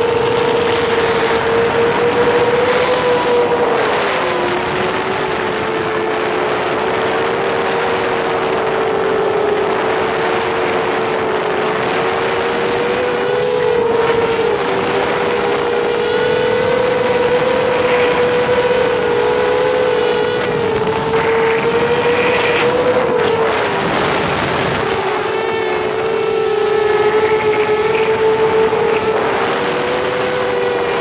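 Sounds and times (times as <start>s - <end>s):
drone motors whining: 0.0s - 31.0s
rush of wind: 0.0s - 31.0s.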